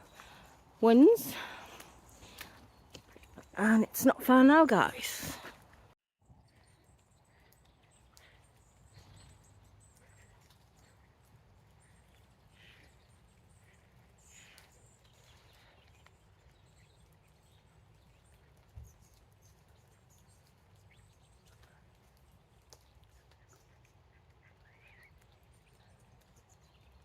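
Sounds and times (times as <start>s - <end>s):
faint footsteps on path: 0.0s - 24.7s.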